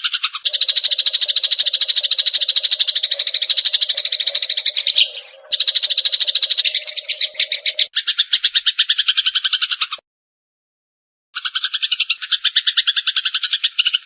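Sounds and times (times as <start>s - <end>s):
sparrows chattering harshly: 0.0s - 10.0s, 11.4s - 14.0s.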